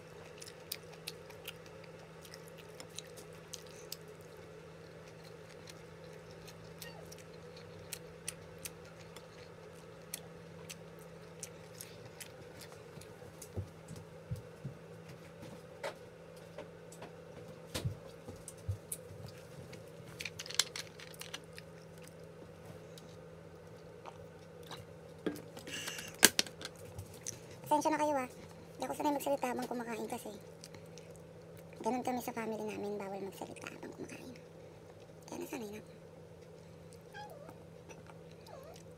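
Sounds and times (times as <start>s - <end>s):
soft chewing: 0.0s - 38.9s.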